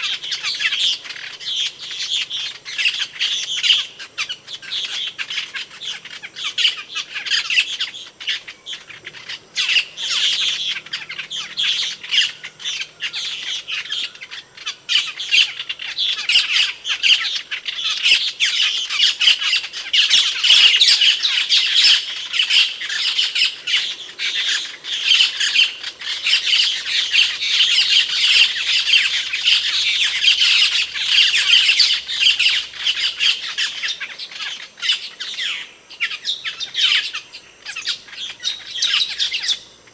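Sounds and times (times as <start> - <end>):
starling calling: 0.0 - 39.9.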